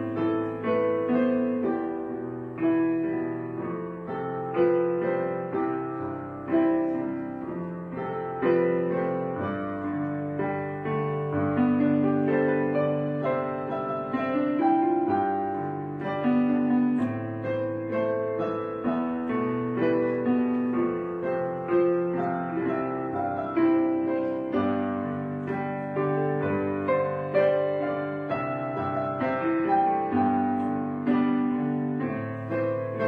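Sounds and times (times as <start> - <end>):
soft piano music: 0.0 - 33.0.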